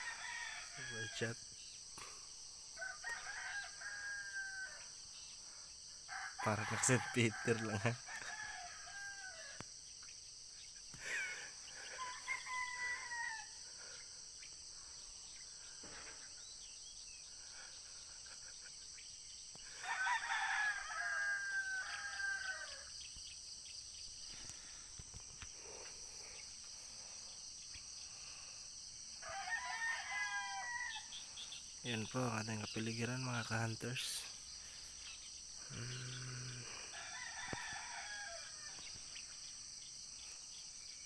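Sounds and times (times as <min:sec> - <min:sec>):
roosters crowing: 0:00.0 - 0:01.5, 0:02.6 - 0:09.8, 0:10.4 - 0:16.7, 0:17.3 - 0:23.3, 0:24.2 - 0:40.1
high-pitched insect chorus: 0:00.0 - 0:41.0.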